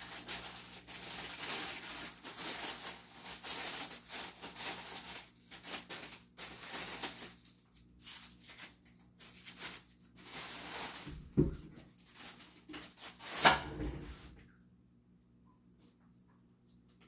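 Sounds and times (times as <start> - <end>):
plastic wrapping crinkling: 0.0 - 13.7.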